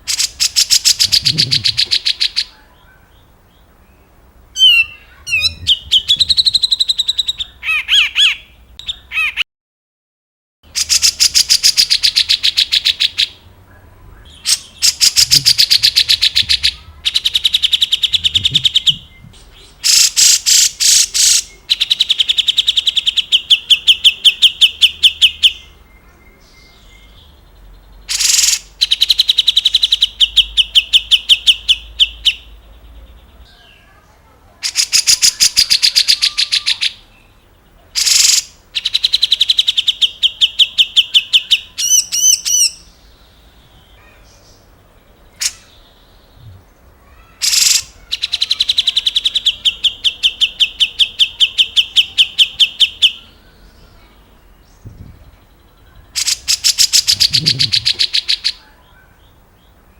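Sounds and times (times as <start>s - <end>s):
bird chattering song: 0.0s - 9.4s, 10.7s - 59.9s.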